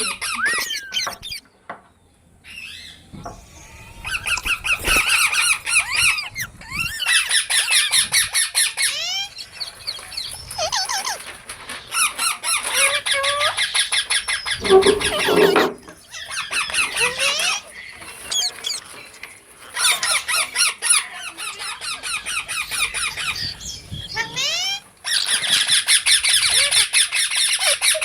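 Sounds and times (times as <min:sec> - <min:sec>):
parrots chattering: 0:00.0 - 0:01.4, 0:03.6 - 0:28.0.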